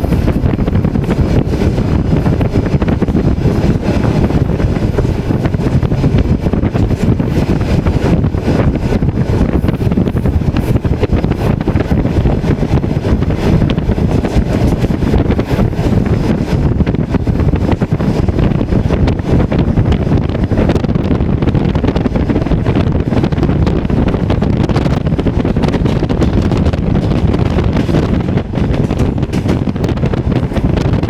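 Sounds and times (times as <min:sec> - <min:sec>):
train rumble inside carriage: 0:00.0 - 0:31.0
wind buffeting microphone: 0:00.0 - 0:31.0.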